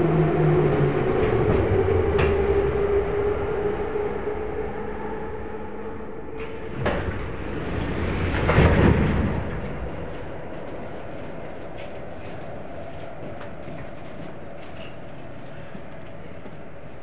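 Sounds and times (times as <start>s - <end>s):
metro car hum: 0.0s - 17.0s.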